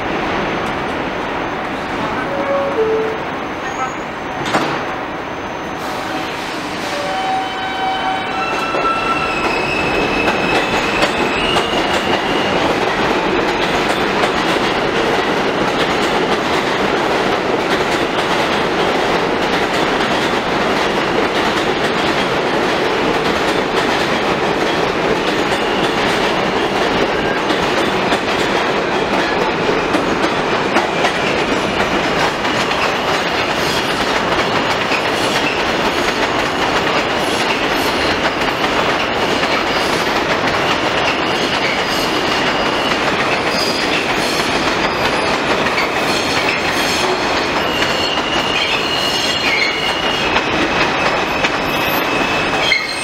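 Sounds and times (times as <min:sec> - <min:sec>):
train wheels rumbling and clattering: 0:03.6 - 0:53.0.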